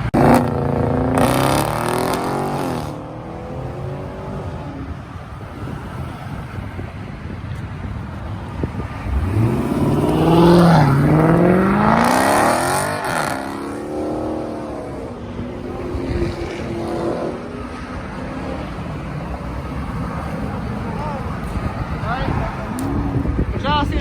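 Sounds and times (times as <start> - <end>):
car engine accelerating hard: 0.0 - 23.8.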